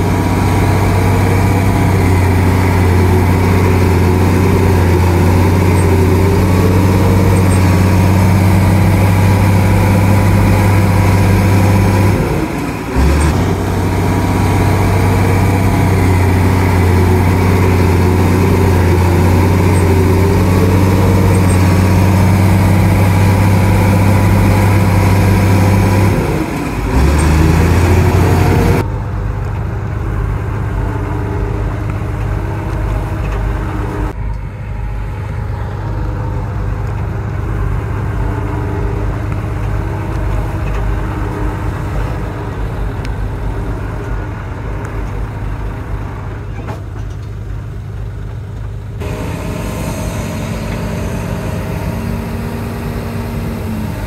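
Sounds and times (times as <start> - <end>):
bulldozer diesel engine drone: 0.0 - 54.0.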